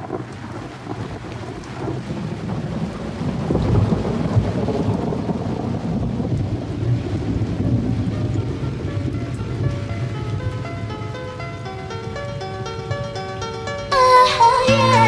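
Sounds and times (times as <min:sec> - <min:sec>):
thunder rumble: 0:00.0 - 0:12.2
rain-like hiss: 0:00.0 - 0:15.0.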